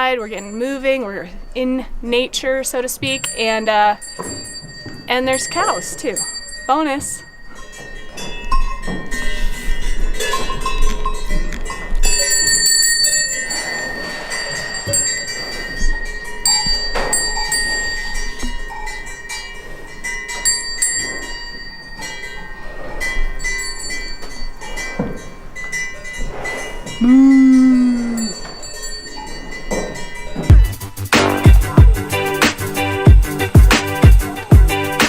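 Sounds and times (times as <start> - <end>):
cowbells clanging: 0.0 - 35.0.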